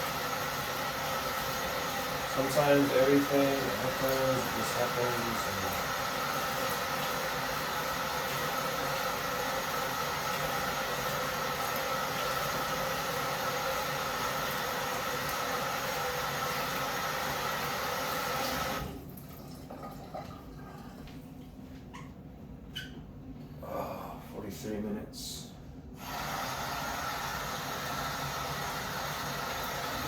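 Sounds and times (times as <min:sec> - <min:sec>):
tap water running into sink: 0:00.0 - 0:21.2, 0:26.0 - 0:30.0.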